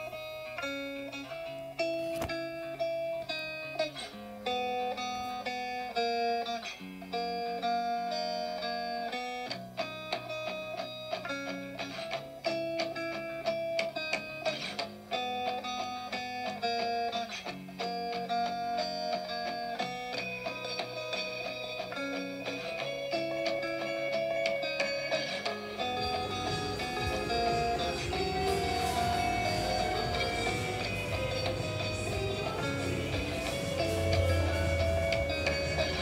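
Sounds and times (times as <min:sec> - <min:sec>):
plucked guitar melody: 0:00.0 - 0:36.0.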